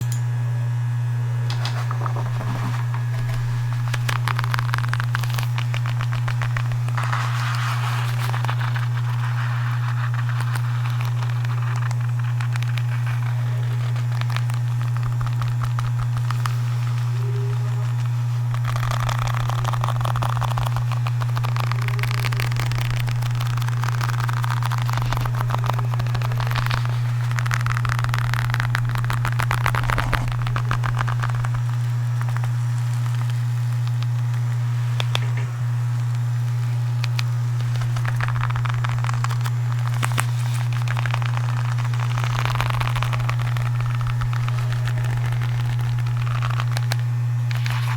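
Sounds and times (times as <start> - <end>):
low background hum: 0.0 - 47.9
crackling and scratching of handled object: 1.5 - 47.9.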